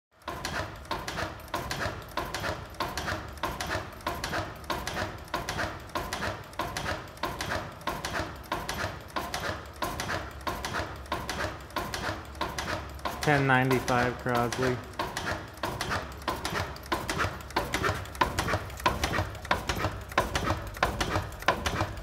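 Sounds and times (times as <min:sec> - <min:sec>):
stationary engine clattering: 0:00.2 - 0:22.0.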